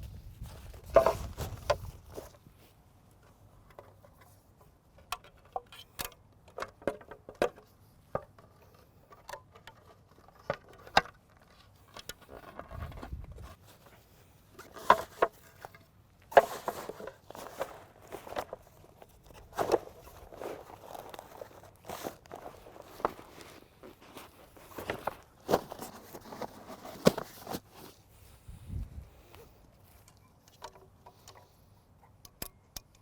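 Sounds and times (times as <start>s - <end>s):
scraping and rustling handling: 0.0s - 6.0s, 6.6s - 31.9s.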